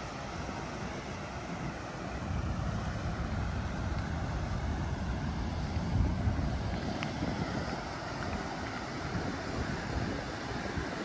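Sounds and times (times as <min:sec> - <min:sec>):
steady outdoor rush: 0:00.0 - 0:11.0
wind buffeting microphone: 0:00.0 - 0:11.0.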